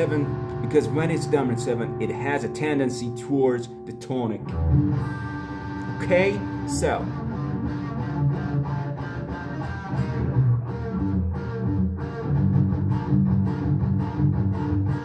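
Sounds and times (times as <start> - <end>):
electric guitar strummed: 0.0 - 15.0.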